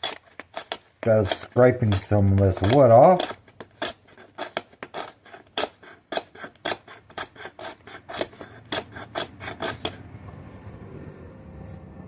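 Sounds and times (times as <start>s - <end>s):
knife scraping wood: 0.0s - 10.0s.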